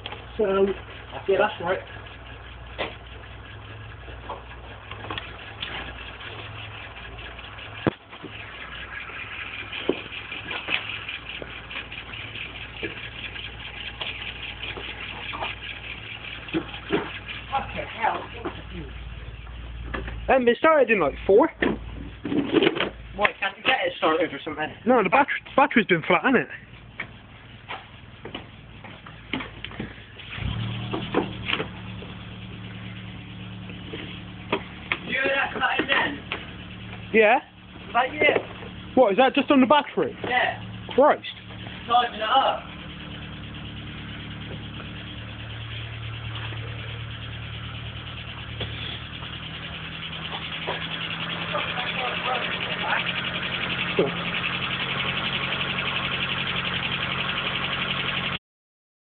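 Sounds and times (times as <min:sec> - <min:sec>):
car engine starting and idling: 0:00.0 - 0:58.4.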